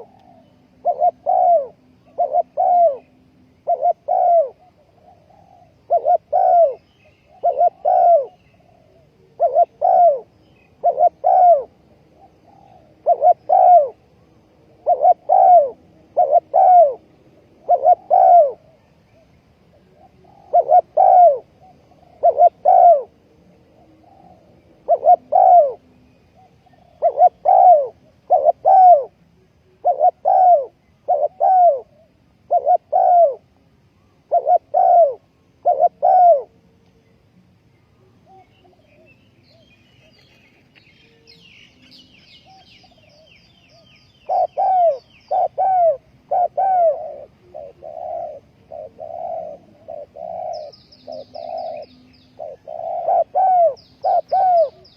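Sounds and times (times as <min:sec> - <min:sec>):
dove cooing: 0:00.0 - 0:36.8, 0:38.0 - 0:54.9.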